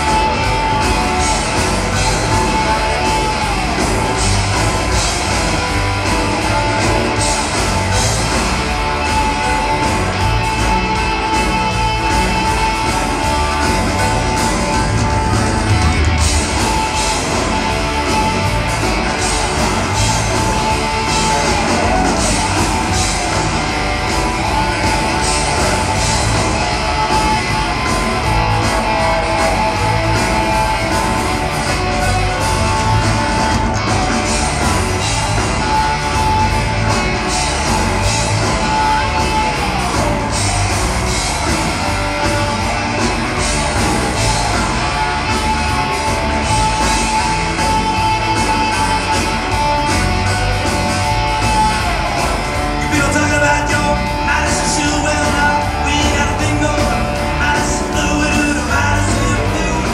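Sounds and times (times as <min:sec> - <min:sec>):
electric guitar leading: 0:00.0 - 0:59.9
live blues-rock band: 0:00.0 - 0:59.9.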